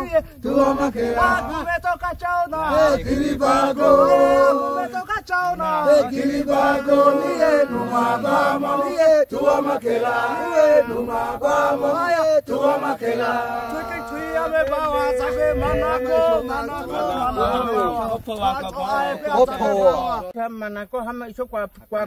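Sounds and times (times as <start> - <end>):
group chanting: 0.0 - 1.7, 2.6 - 20.3.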